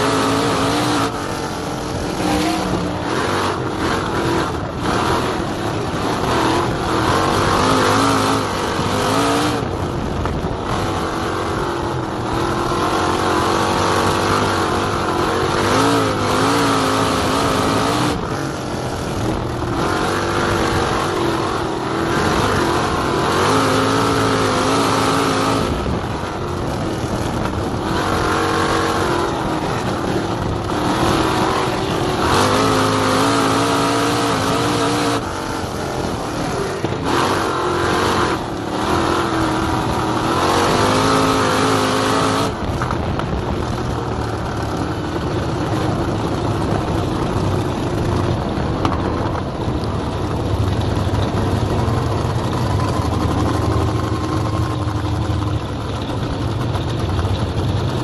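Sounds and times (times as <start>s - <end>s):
race car engine revving: 0.0s - 58.0s
rushing wind: 0.0s - 58.0s
track noise: 0.0s - 58.0s.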